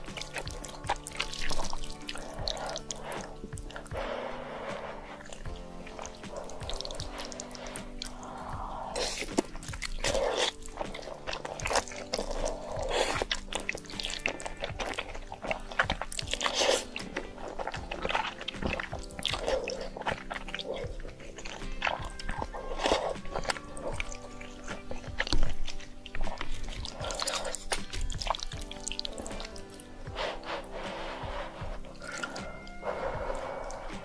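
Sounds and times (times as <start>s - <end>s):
background music: 0.0s - 34.0s
person crunching and chewing food: 0.0s - 34.0s.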